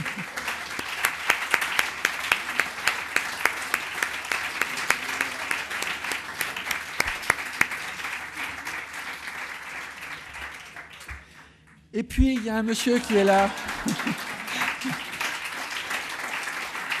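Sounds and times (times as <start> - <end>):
audience applauding: 0.0 - 11.5, 12.2 - 17.0.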